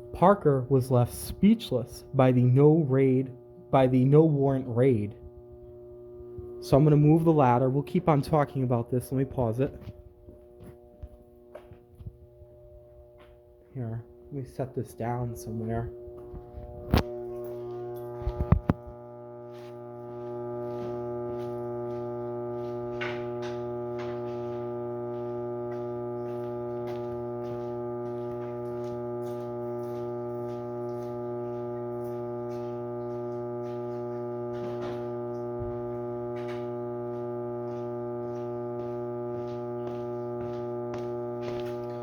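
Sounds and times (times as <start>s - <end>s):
steady multi-pitch hum: 0.0s - 42.0s.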